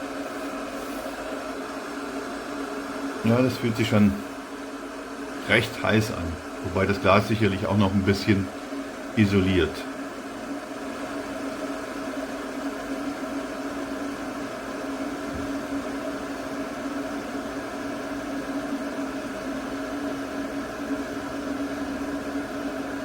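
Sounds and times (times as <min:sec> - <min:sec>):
kettle water simmering: 0:00.0 - 0:23.0.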